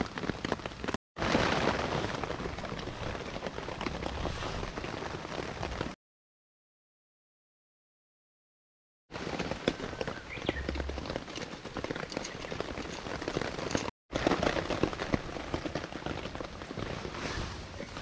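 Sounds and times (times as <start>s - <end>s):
rain pattering on a tarp: 0.0s - 6.0s, 9.1s - 18.0s.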